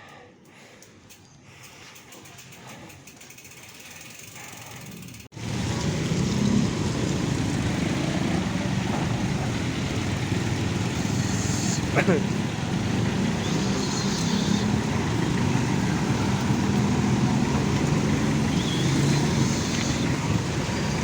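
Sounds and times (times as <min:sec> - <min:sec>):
road and vehicle rumble: 0:00.3 - 0:21.0.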